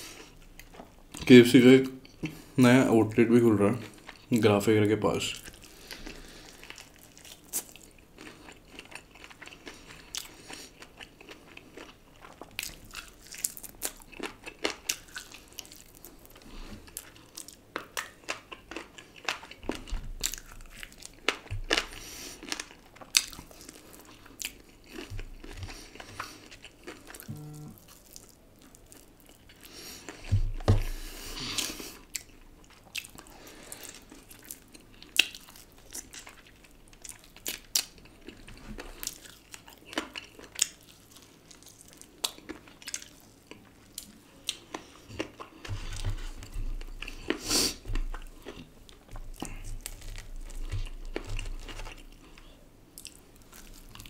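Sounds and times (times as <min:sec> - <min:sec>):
person crunching and chewing food: 0:00.0 - 0:02.5, 0:03.7 - 0:54.0.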